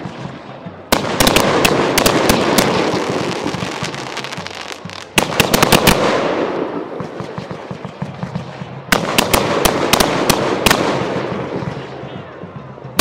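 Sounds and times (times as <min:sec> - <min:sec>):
firework bangs: 0:00.0 - 0:12.1
firework crackle: 0:00.0 - 0:12.1.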